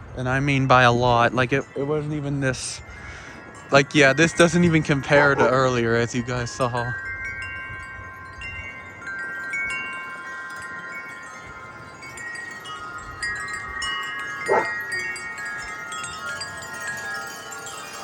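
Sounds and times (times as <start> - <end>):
wind chimes ringing: 0.0 - 18.0.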